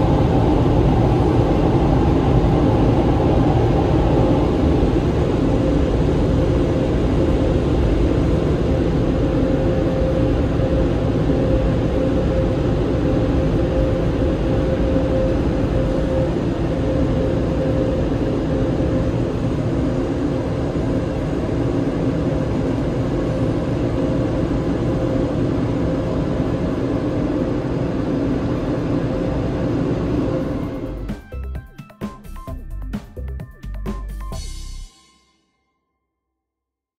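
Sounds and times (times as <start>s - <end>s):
car wash machinery droning: 0.0s - 31.5s.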